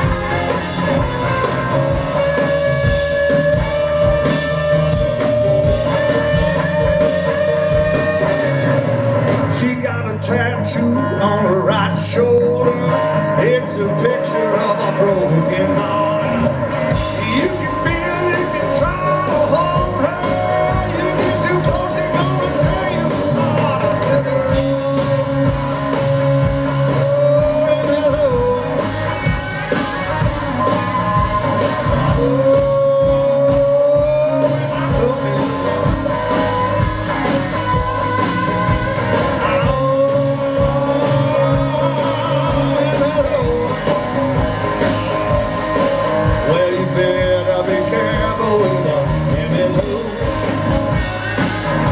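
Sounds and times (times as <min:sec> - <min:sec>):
blues-rock band playing: 0:00.0 - 0:51.9
electric guitar: 0:00.0 - 0:51.9
person singing: 0:00.0 - 0:51.9.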